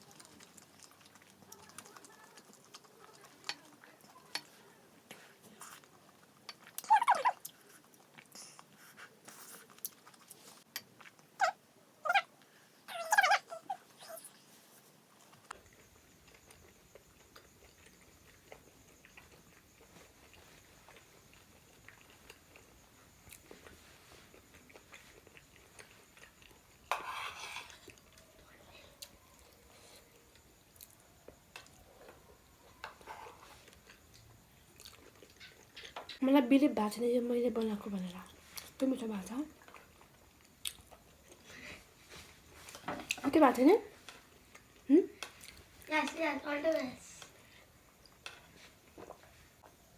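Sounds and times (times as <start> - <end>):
quiet chewing: 0.0 - 36.2, 37.5 - 49.9.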